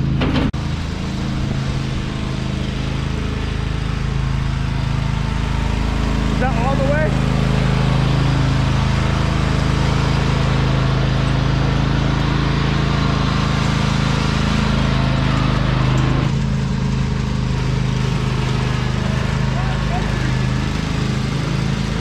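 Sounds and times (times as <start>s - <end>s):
riding lawn mower engine running: 0.0s - 22.0s.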